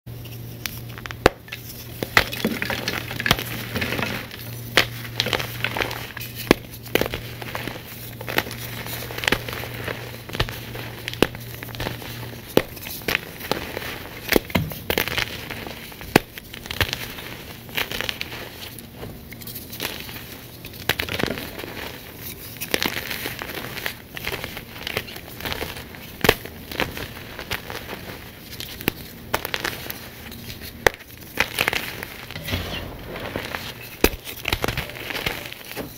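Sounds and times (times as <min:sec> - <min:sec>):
chalk crunching and crumbling: 0:00.3 - 0:35.9.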